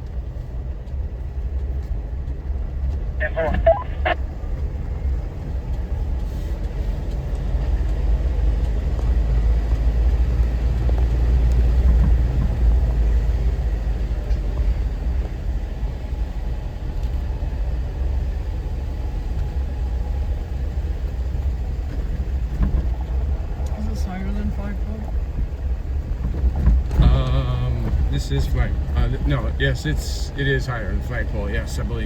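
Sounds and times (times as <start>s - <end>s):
vehicle interior rumble: 0.0s - 32.0s.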